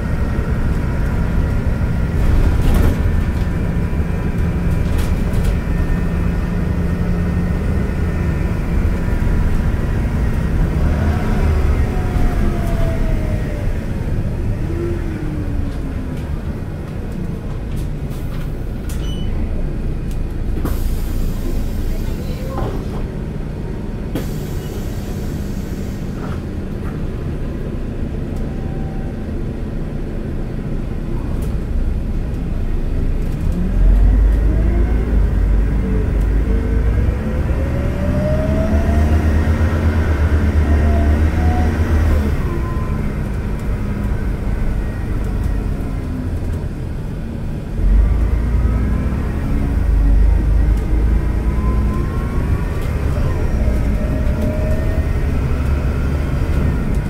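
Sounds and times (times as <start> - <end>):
bus engine running: 0.0 - 57.0.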